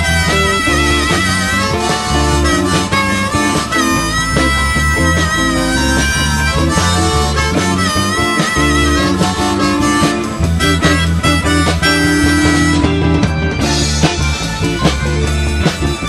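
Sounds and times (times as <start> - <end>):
bending lead guitar notes: 0.0 - 16.0
blues-rock band playing: 0.0 - 16.0.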